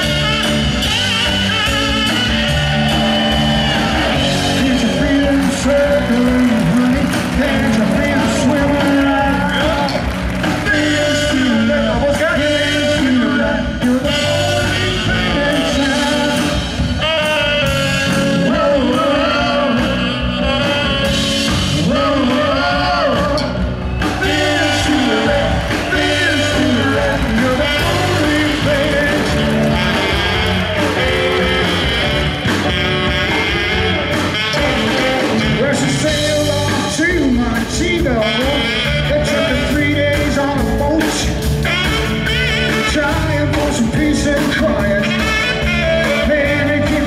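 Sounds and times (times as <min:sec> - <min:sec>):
live rock band playing: 0:00.0 - 0:47.0
person singing: 0:03.8 - 0:41.5.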